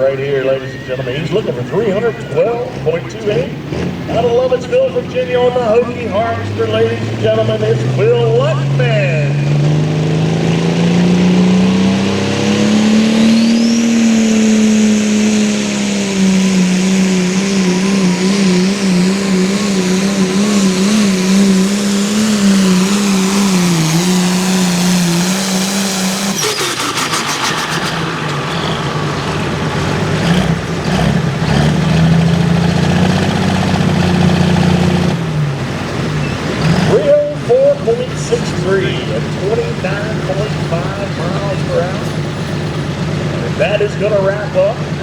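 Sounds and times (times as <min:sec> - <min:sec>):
engine crackling: 0:00.0 - 0:45.0
tractor engine at full throttle: 0:00.0 - 0:45.0.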